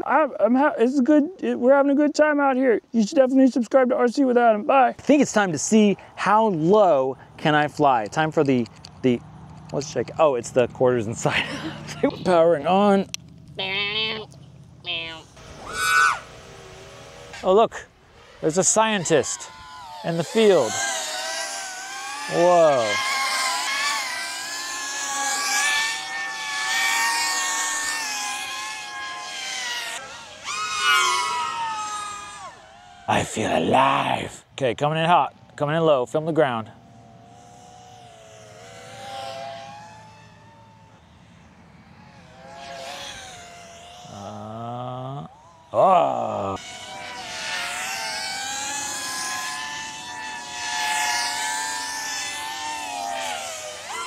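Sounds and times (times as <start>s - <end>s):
drone propellers whining: 4.7s - 54.0s.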